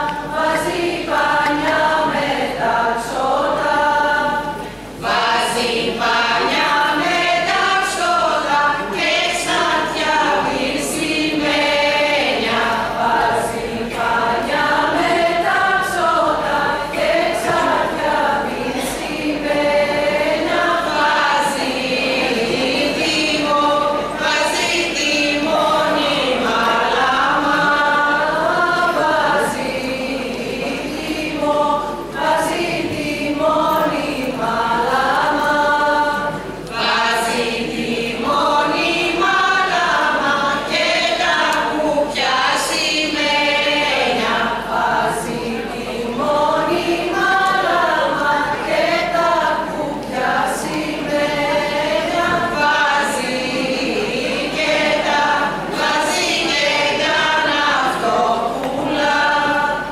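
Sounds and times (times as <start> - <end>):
group singing folk song in unison: 0.0 - 59.9.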